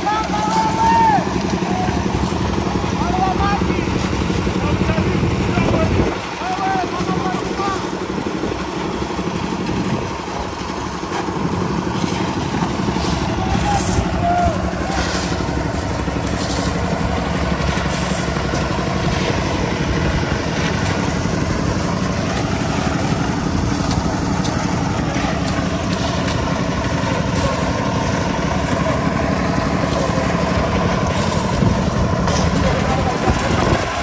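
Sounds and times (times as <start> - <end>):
small petrol engine running: 0.0 - 34.0.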